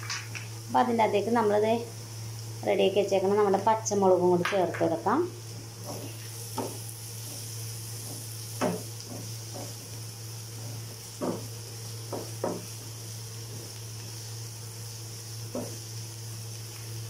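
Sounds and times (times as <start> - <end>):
steady low hum: 0.0 - 17.0
vegetables sizzling in hot oil: 0.0 - 17.0.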